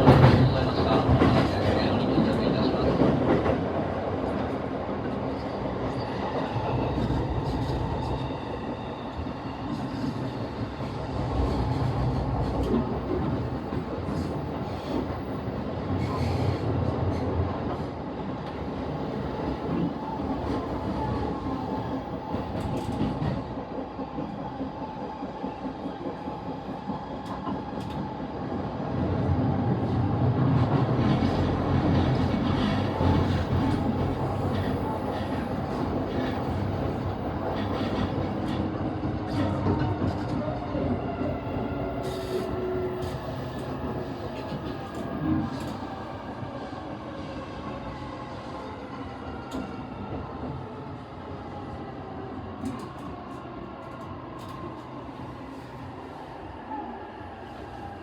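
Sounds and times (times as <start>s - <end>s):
train wheels rumbling on rail: 0.0s - 56.6s.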